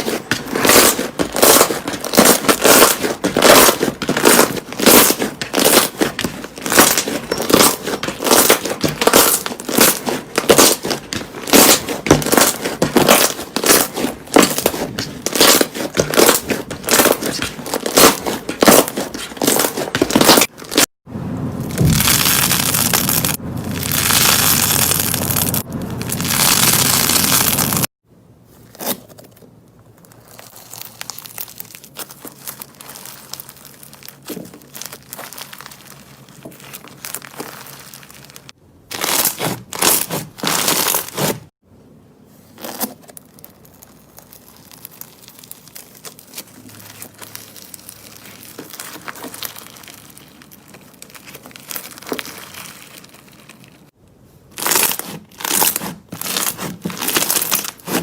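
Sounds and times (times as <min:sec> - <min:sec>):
slime crinkling and crackling: 0:00.0 - 0:20.9, 0:21.6 - 0:27.9, 0:28.5 - 0:41.6, 0:42.4 - 0:58.0.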